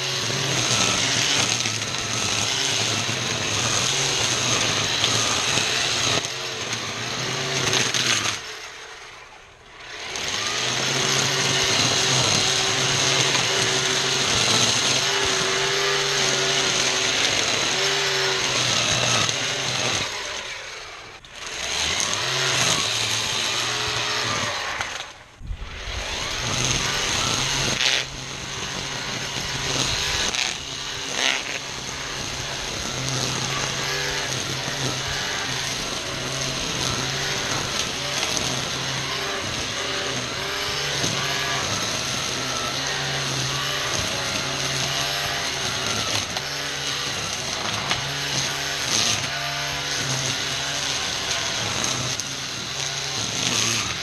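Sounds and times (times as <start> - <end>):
string trimmer running: 0.0 - 54.0.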